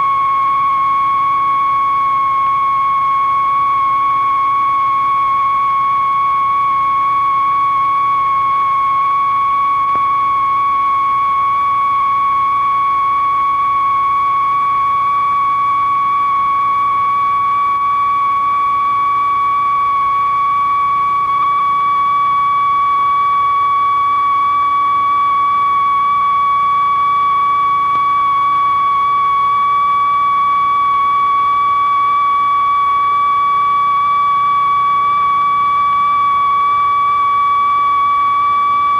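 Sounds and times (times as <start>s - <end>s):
high electronic sine tone: 0.0s - 38.9s.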